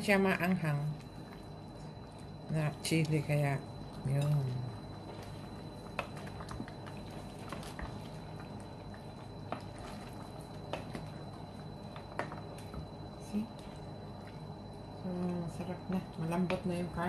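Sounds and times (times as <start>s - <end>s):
stew bubbling and squishing: 0.6s - 16.9s.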